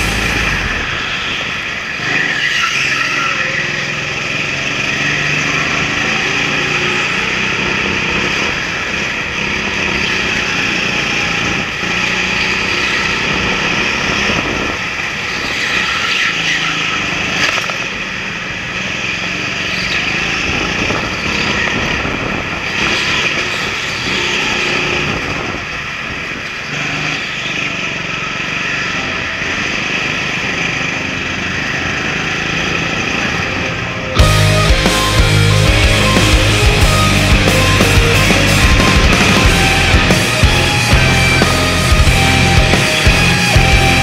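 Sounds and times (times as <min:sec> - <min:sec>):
kart engine revving: 0:00.0 - 0:44.0
other kart engines: 0:00.0 - 0:44.0.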